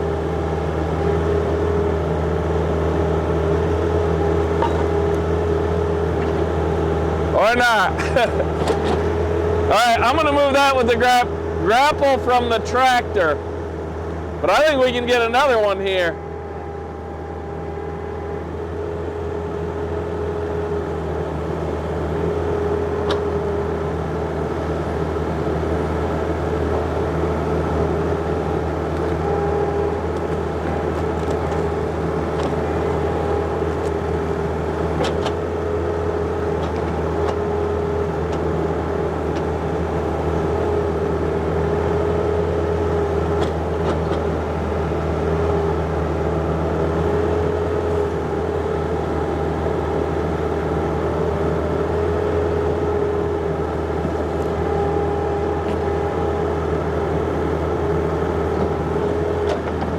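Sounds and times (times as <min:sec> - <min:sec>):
diesel engine running under load: 0:00.0 - 0:59.9
hydraulic whine: 0:03.3 - 0:59.9.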